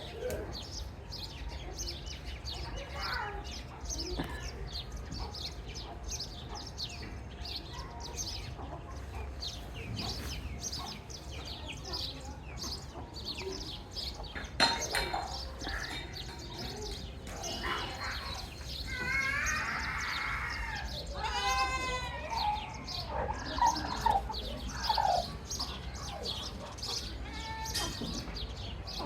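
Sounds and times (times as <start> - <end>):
chicks peeping: 0.1 - 29.0.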